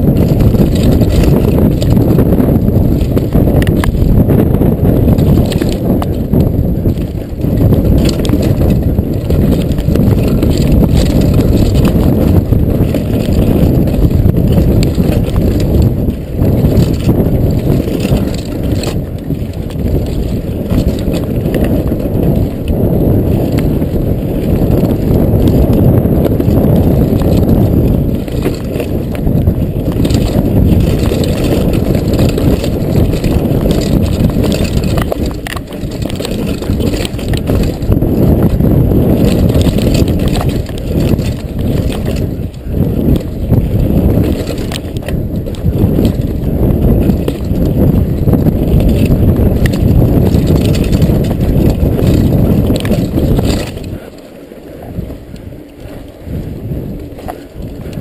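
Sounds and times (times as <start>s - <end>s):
bike knocking and rattling: 0.0s - 58.0s
tyres rumbling on dirt: 0.0s - 58.0s
wind on microphone: 0.0s - 58.0s.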